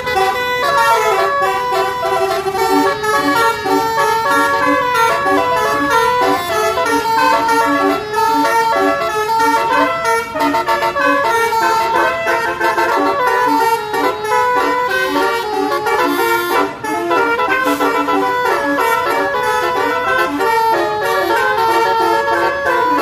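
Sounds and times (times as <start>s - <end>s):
musical bus horn melody: 0.0s - 23.0s.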